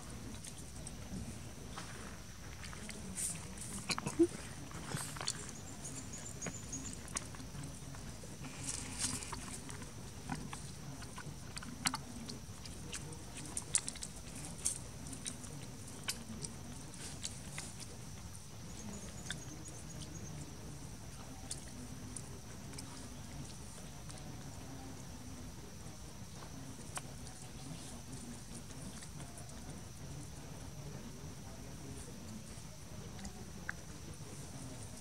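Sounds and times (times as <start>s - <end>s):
faint chirps: 0.0s - 35.0s.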